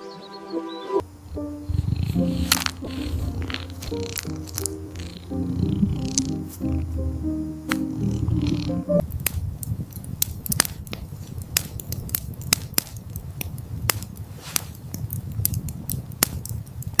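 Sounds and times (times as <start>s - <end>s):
campfire crackling: 1.0s - 17.0s.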